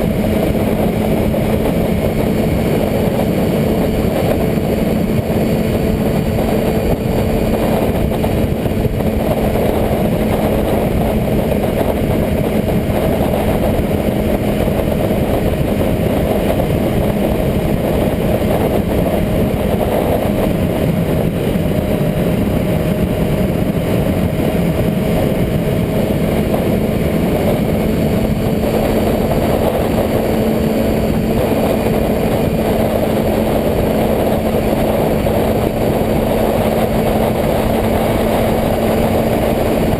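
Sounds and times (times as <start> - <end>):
loud rushing noise: 0.0 - 39.9
motorcycle engine running: 0.0 - 39.9.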